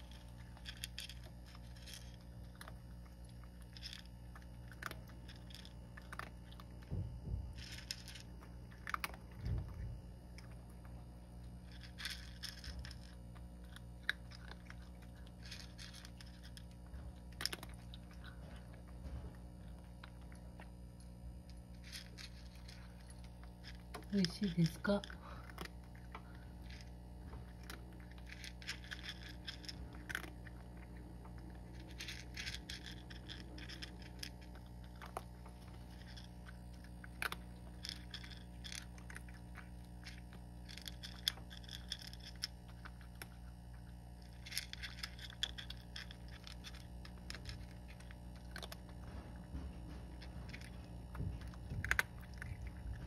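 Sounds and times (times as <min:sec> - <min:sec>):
cat crunching dry kibble: 0:00.0 - 0:53.0.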